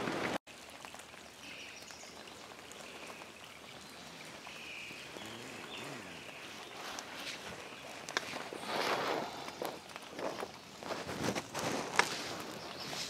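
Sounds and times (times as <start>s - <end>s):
light rain and drips: 0.0s - 13.0s.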